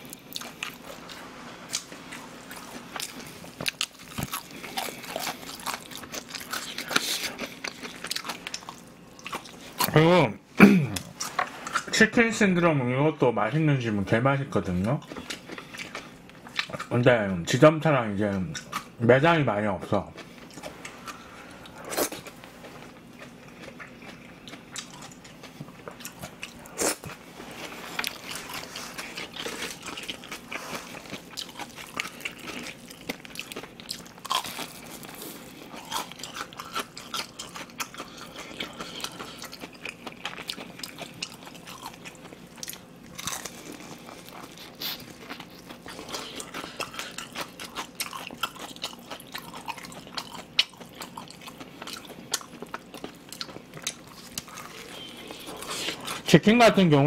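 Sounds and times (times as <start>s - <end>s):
crunching and chewing fried chicken: 0.0s - 10.2s, 14.6s - 17.6s, 18.2s - 19.0s, 19.8s - 56.8s.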